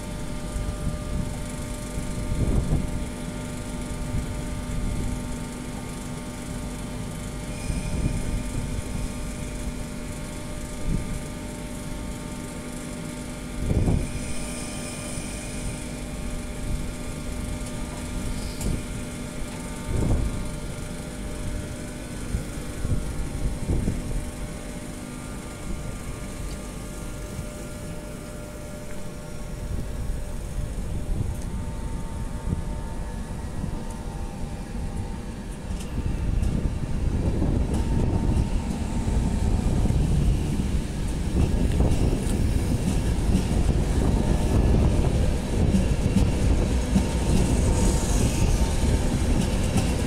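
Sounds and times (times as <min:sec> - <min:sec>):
train electric hum and rumble: 0:00.0 - 0:50.0.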